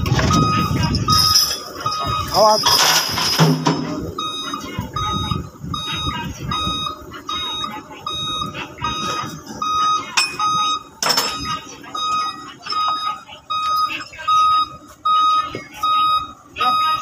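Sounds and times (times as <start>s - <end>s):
low engine rumble: 0.0s - 17.0s
reversing alarm beeping: 0.0s - 17.0s.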